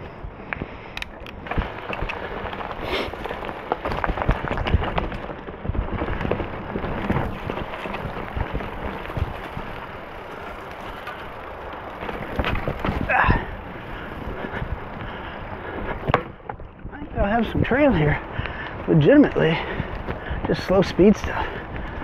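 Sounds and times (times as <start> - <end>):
bike knocking and clattering: 0.0 - 18.7
bike tyres on dirt trail: 0.0 - 22.0.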